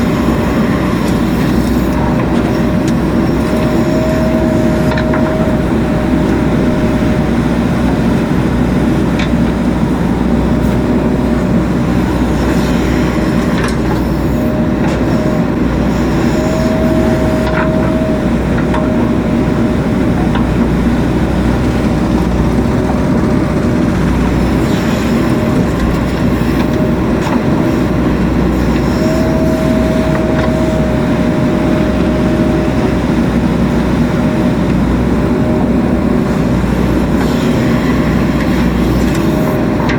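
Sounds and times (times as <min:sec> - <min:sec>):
diesel engine running: 0:00.0 - 0:39.9
high whine: 0:00.0 - 0:39.9.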